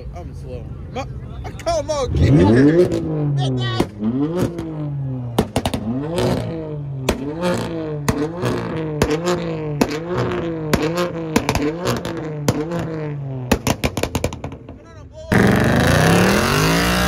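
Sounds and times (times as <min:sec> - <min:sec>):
car engine revving: 0:01.7 - 0:17.0
exhaust cracks: 0:02.2 - 0:17.0.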